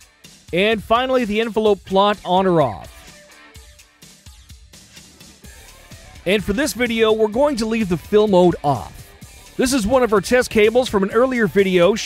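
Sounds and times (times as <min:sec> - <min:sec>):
quiet background music: 0:00.1 - 0:12.0.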